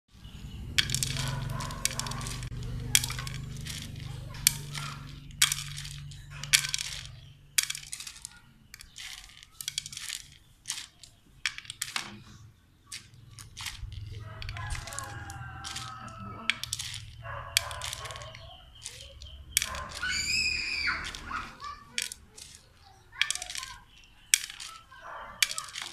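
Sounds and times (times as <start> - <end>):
chopsticks clicking on plastic bowls: 0.5 - 25.9.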